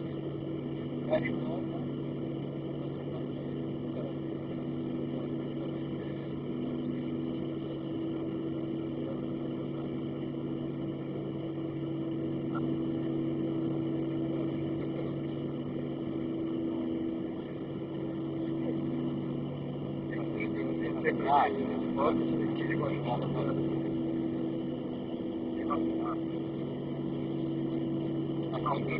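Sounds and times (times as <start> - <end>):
jet engines idling in cabin: 0.0 - 28.9.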